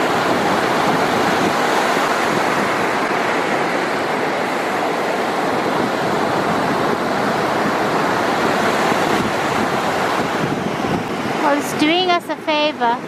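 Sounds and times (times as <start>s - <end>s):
ocean surf on sandy beach: 0.0s - 13.0s.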